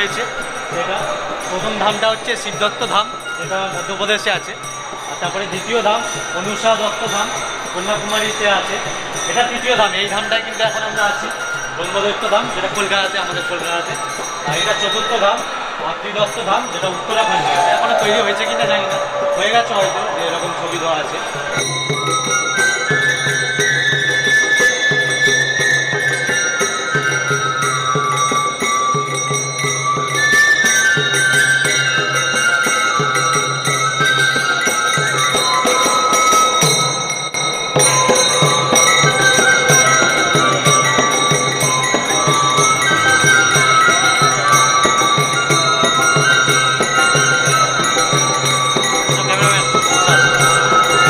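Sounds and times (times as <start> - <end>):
bamboo flute melody: 0.0 - 37.1, 37.7 - 51.0
small hand cymbals jingling: 0.0 - 51.0.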